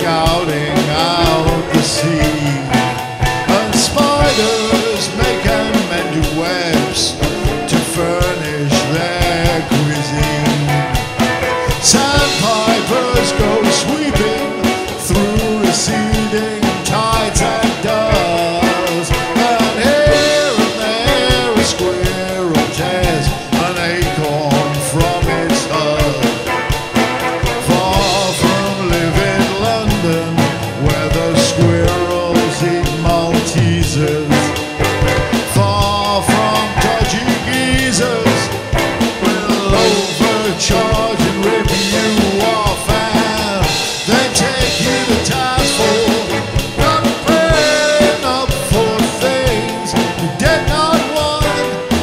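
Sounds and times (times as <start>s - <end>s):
drums playing: 0.0s - 52.0s
electric guitar: 0.0s - 52.0s
man singing: 0.0s - 52.0s.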